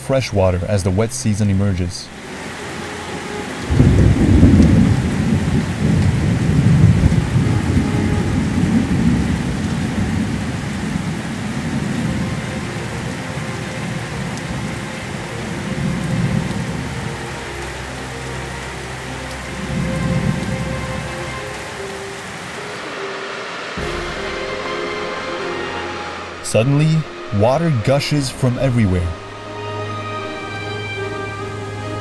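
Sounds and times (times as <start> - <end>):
heavy rain hissing: 0.2 - 32.0
thunder rumbling: 2.3 - 29.5.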